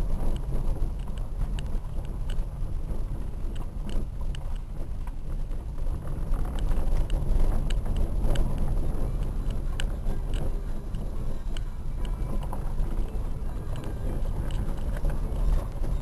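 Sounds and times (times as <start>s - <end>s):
tyres rumbling on dirt track: 0.0s - 16.0s.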